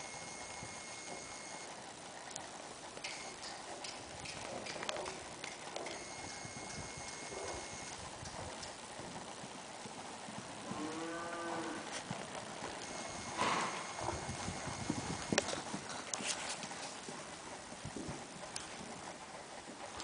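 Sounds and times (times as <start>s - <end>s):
horse hoofbeats on sand: 3.1s - 11.0s, 11.6s - 20.0s.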